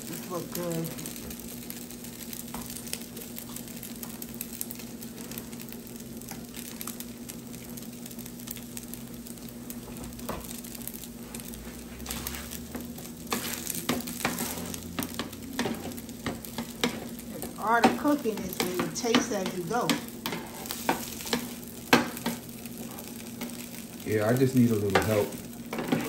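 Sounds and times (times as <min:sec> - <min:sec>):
rice sizzling on a griddle: 0:00.0 - 0:26.0
steady low hum: 0:00.0 - 0:26.0.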